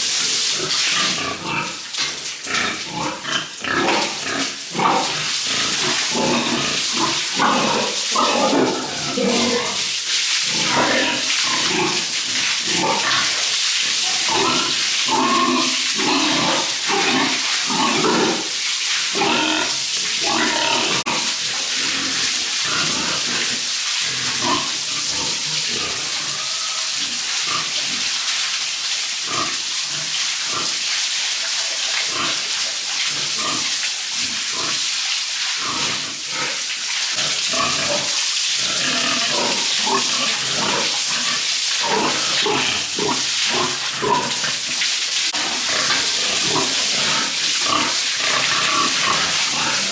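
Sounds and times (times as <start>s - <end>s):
running water hiss: 0.0s - 49.9s
pigs grunting and squealing: 0.4s - 28.1s, 35.6s - 49.9s.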